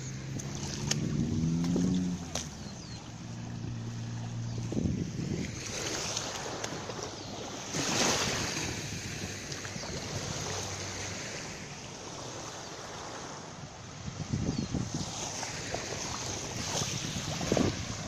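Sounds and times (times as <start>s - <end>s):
wind on microphone: 0.0s - 11.5s, 13.8s - 18.0s
small waves washing on beach: 0.0s - 18.0s.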